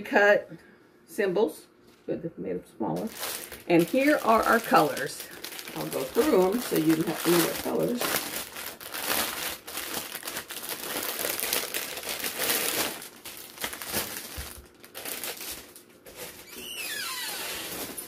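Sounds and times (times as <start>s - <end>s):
plastic bag crinkling: 3.0s - 18.0s.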